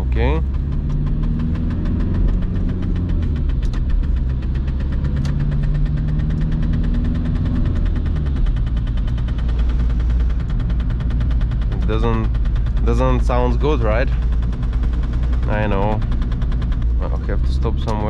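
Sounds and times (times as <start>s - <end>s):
diesel engine running: 0.0s - 18.0s
rapid even clatter: 0.0s - 18.0s.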